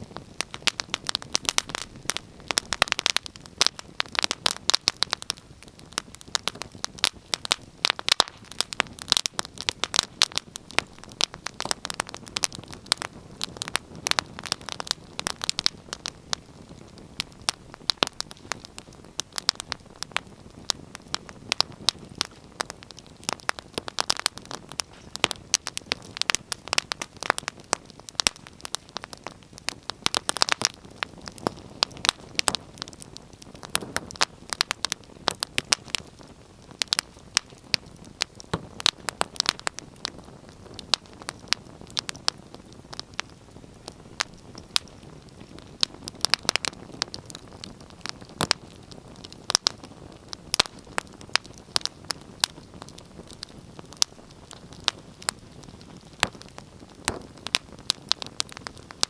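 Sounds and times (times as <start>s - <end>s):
hiss of burning: 0.0s - 59.0s
wood fire crackling: 0.0s - 59.0s.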